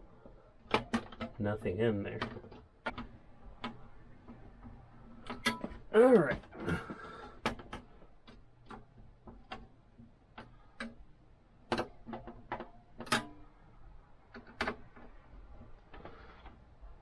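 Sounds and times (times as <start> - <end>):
computer parts clicking and tapping: 0.6 - 6.5, 7.2 - 11.0, 11.6 - 13.6, 14.2 - 16.6.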